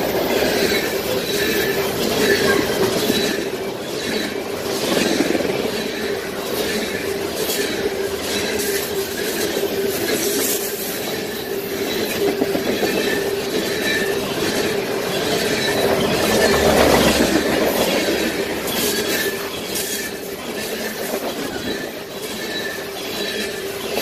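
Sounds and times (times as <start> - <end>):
train wheels rumbling on rails: 0.0 - 24.0
wheels squealing: 0.0 - 24.0.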